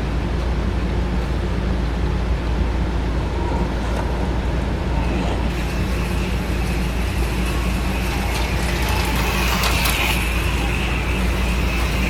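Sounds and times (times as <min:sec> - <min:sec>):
slot car motors whining: 0:00.0 - 0:12.0
steady low hum: 0:00.0 - 0:12.0.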